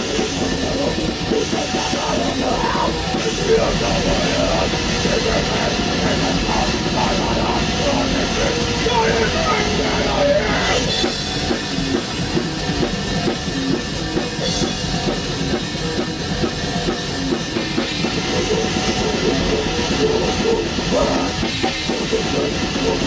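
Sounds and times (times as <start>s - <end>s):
drum kit played fast: 0.0s - 23.0s
electric guitar riff: 0.0s - 23.0s.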